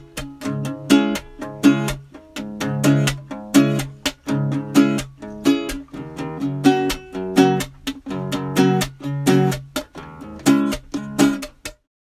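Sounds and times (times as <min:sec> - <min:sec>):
acoustic guitar strumming chords: 0:00.0 - 0:11.8.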